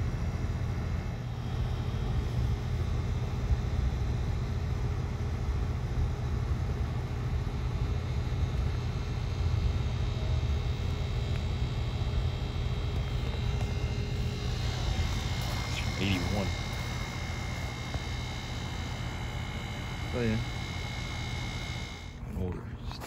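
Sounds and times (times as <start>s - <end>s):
faint steady tones: 0.0s - 22.9s
heat pump droning: 0.0s - 23.0s.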